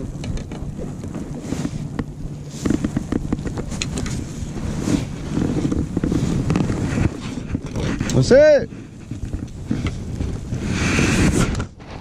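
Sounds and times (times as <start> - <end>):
knocks and rustling in boat: 0.0 - 12.0
wind buffeting microphone: 0.0 - 12.0.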